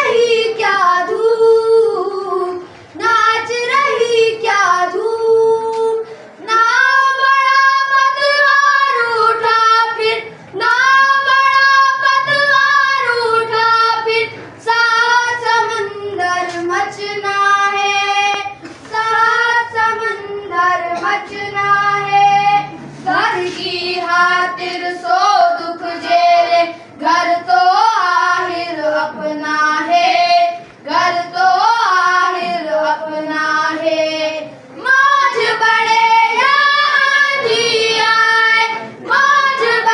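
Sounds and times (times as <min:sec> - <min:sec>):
boys singing together: 0:00.0 - 0:39.9.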